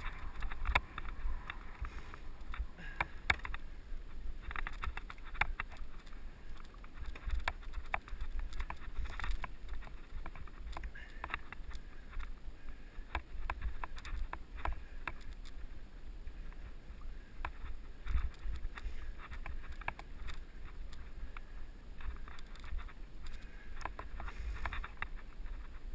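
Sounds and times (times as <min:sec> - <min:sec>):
bike rattling: 0:00.0 - 0:25.9.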